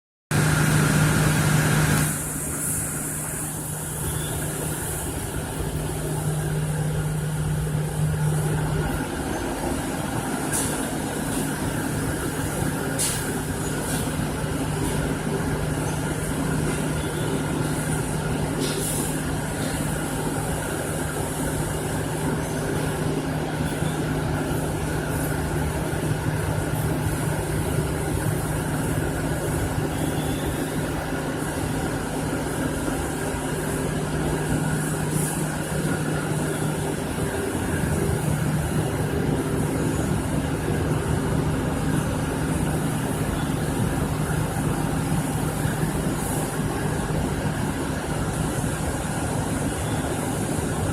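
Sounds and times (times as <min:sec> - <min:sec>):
machine humming and hissing: 0:00.3 - 0:50.9.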